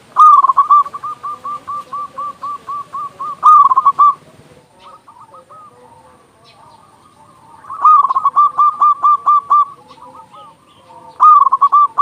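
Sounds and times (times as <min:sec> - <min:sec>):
distant low dove cooing: 0:00.0 - 0:12.0
dove cooing song: 0:00.0 - 0:12.0.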